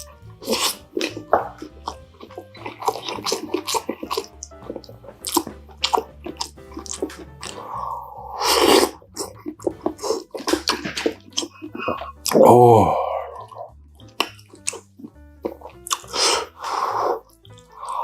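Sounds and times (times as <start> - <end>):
chewing clicks and crackles: 0.0 - 12.4, 13.4 - 16.6, 17.2 - 18.0
slurp: 0.0 - 18.0.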